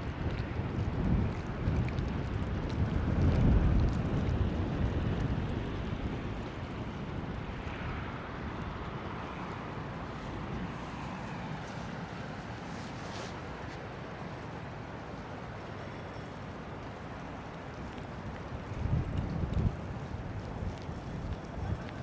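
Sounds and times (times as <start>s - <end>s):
traffic rumble: 0.0s - 22.0s
wind buffeting microphone: 0.0s - 22.0s.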